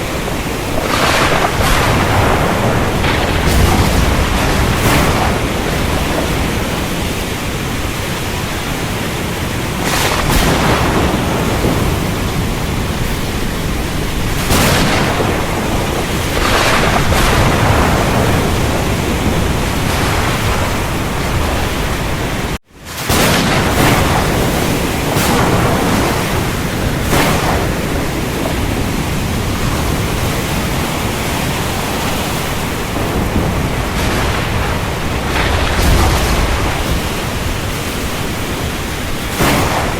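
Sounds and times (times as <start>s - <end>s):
strong wind on microphone: 0.0s - 39.9s.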